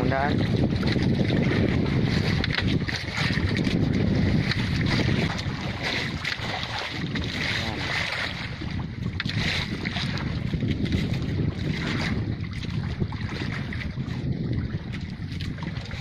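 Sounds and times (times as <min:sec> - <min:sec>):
water moving around boat hull: 0:00.0 - 0:16.0
wind rumble on microphone: 0:00.0 - 0:16.0.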